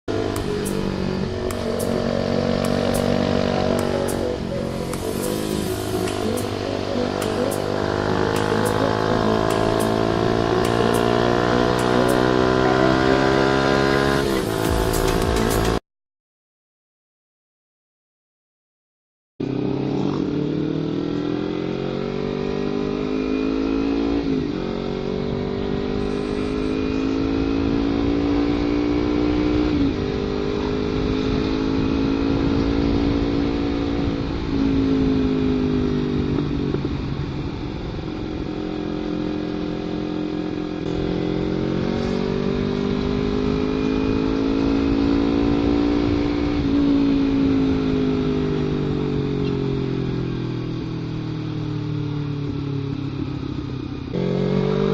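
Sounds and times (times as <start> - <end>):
motorcycle engine revving: 0.0 - 15.8, 19.4 - 54.9.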